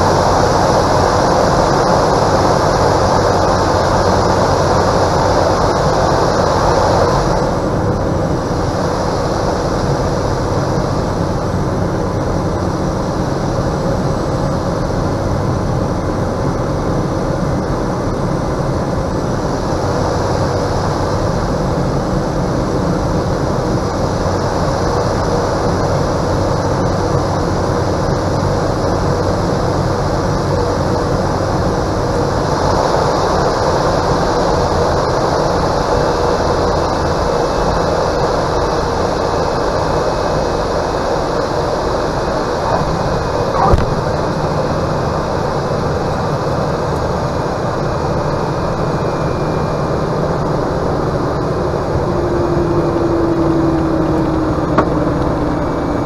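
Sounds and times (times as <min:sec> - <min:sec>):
steady hum: 0:00.0 - 0:56.0
turboprop engine and propeller: 0:00.0 - 0:56.0
wind and airframe noise: 0:00.0 - 0:56.0.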